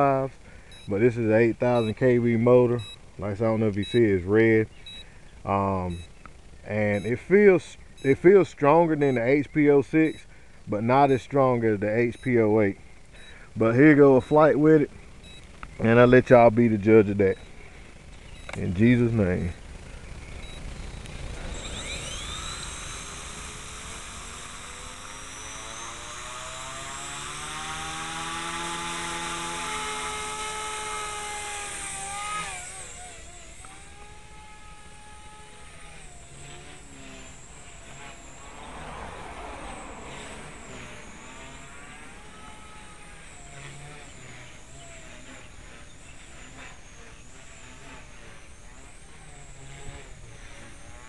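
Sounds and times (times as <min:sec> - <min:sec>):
small helicopter rotor whine: 0:00.0 - 0:51.0.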